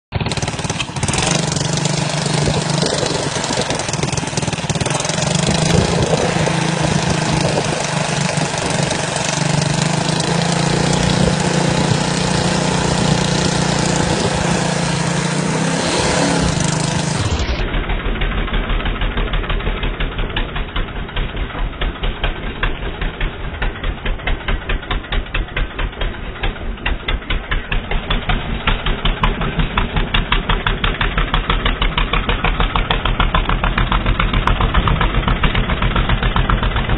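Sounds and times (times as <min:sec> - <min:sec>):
engine idling with pulsing beat: 0:00.1 - 0:15.7, 0:16.4 - 0:36.9
atv engine running: 0:00.1 - 0:36.9.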